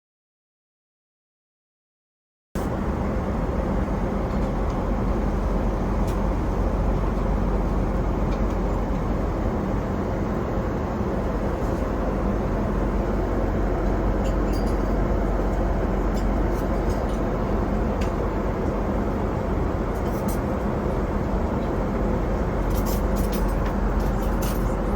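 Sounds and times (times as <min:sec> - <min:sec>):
vehicle running rumble: 0:02.6 - 0:24.9.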